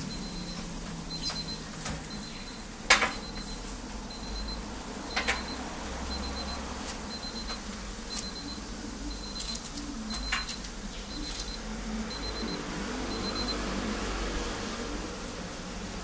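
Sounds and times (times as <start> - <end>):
kitchen hum: 0.0 - 16.0.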